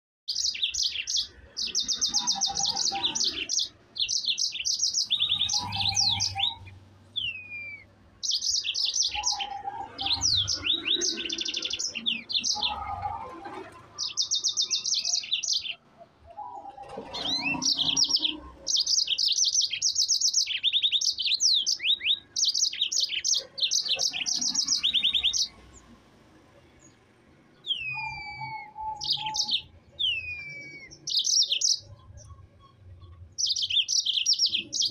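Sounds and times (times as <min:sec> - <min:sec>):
canary trilling song: 0:00.3 - 0:34.9.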